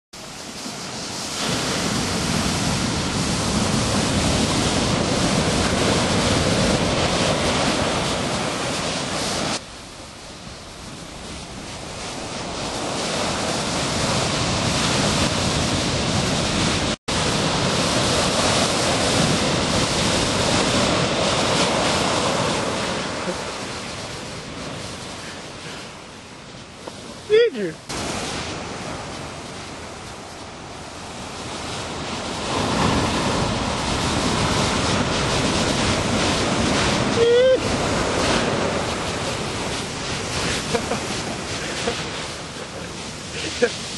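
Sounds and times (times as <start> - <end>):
ocean surf breaking: 0.2 - 43.9
wind rumbling on microphone: 0.2 - 43.9.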